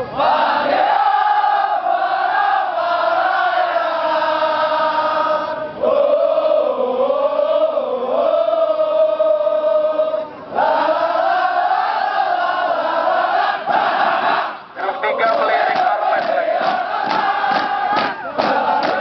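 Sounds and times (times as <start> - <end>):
men chanting in unison: 0.2 - 19.0.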